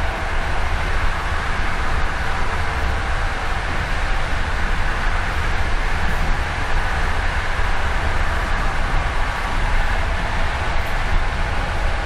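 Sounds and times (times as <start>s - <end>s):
hiss of wheels on rail: 0.0s - 12.0s
train carriage rumble: 0.0s - 12.0s.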